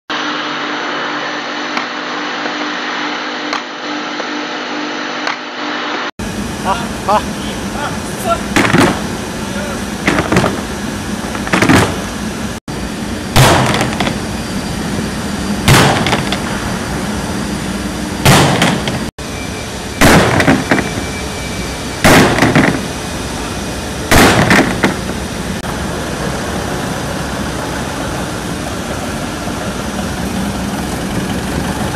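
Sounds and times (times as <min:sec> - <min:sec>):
forklift engine hum: 0:00.1 - 0:31.9.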